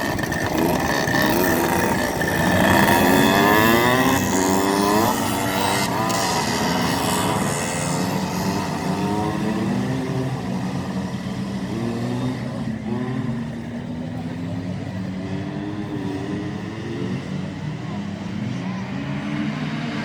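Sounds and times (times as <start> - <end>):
go-kart engine revving: 0.0 - 20.0.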